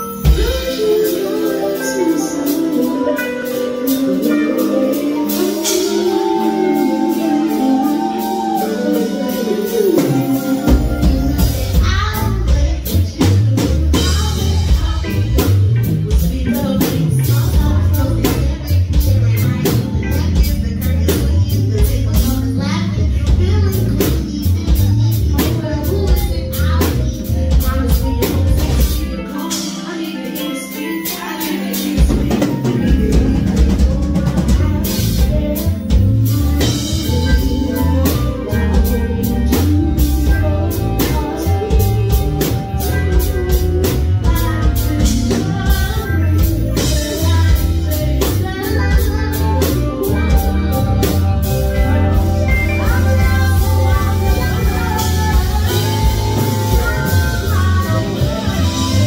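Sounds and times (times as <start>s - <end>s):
drum kit: 0.0s - 59.0s
lead singer: 0.0s - 59.0s
live band playing: 0.0s - 59.0s.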